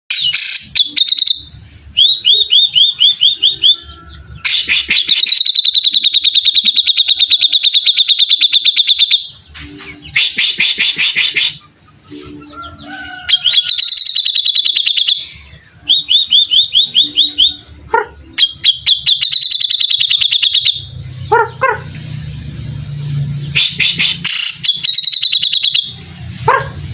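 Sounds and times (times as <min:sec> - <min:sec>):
bulbul singing: 0:00.1 - 0:26.8.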